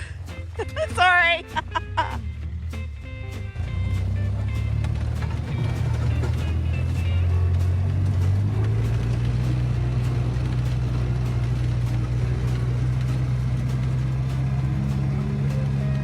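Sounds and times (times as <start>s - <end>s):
utility vehicle engine running: 0.0s - 16.0s.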